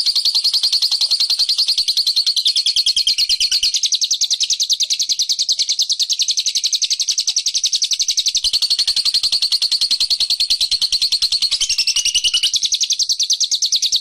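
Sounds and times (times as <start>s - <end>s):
songbird chattering trill: 0.0s - 14.0s.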